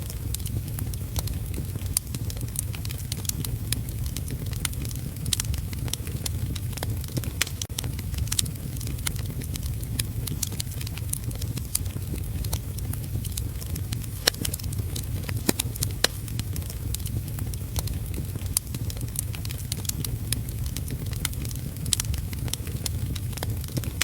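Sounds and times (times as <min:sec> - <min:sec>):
low steady rumble: 0:00.0 - 0:24.0
wood fire crackling and popping: 0:00.0 - 0:24.0.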